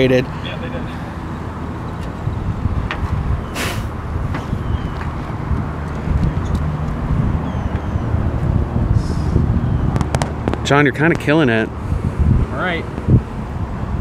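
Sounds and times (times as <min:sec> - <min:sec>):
wind on microphone: 0:02.0 - 0:14.0.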